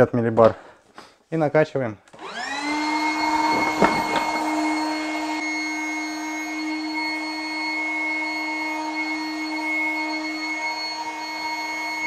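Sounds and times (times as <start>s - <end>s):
electric pump running: 2.2s - 12.0s.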